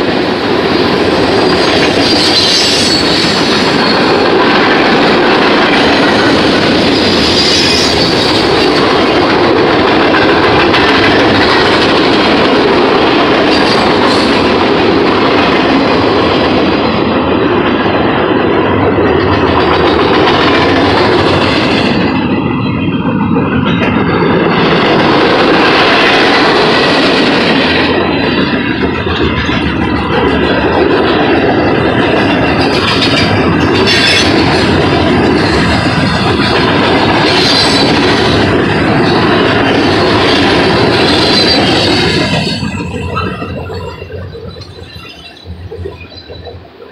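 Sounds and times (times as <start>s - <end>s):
steel train wheels on rails: 0.0s - 46.9s.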